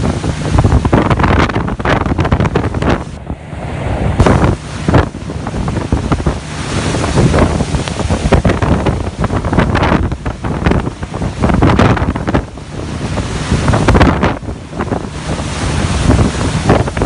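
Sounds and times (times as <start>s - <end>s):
gusting wind buffeting microphone: 0.0s - 17.0s.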